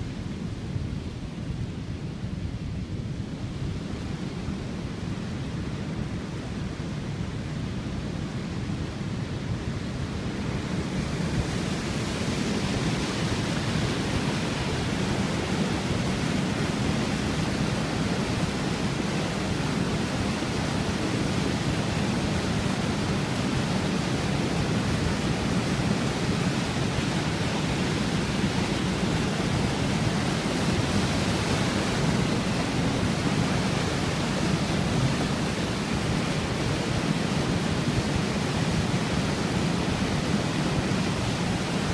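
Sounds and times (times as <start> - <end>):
water roaring over a weir: 0.0 - 41.9.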